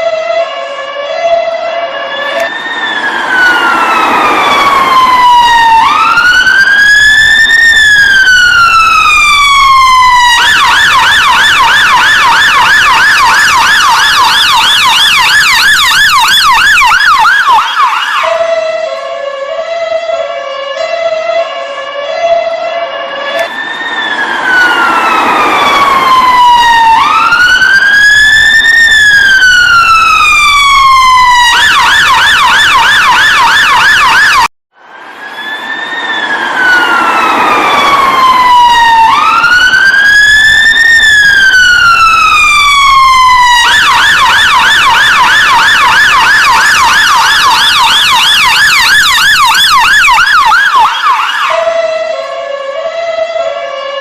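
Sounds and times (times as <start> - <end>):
ambulance siren wailing and yelping: 0.0 - 54.0.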